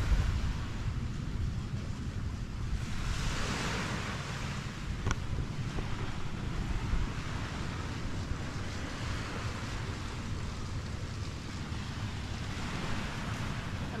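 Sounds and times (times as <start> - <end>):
sea waves washing on beach: 0.0 - 14.0
wind buffeting microphone: 0.0 - 14.0.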